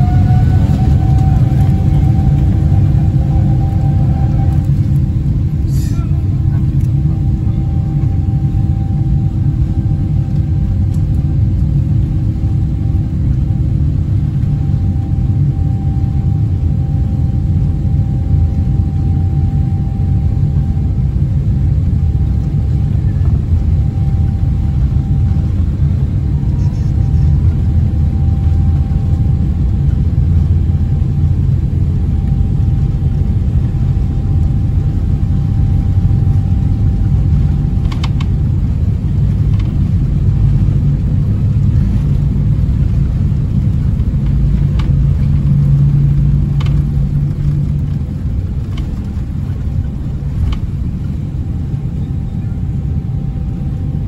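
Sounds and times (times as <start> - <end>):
jet engines deep rumble: 0.0 - 54.0.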